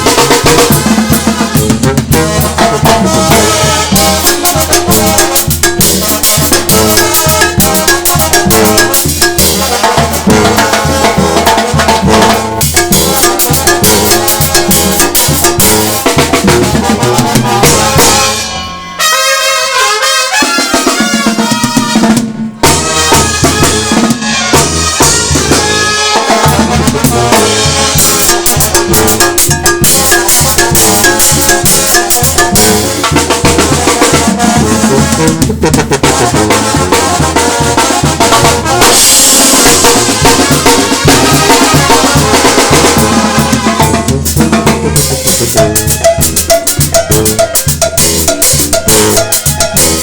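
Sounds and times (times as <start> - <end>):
bass line: 0.0 - 19.0, 26.6 - 50.0
driving drums: 0.0 - 19.2, 19.8 - 50.0
brass band music: 0.0 - 50.0.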